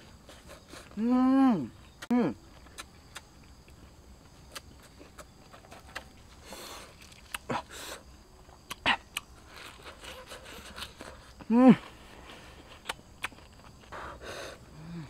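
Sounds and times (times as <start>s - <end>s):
crunchy chewing: 0.0s - 1.1s, 1.7s - 15.0s.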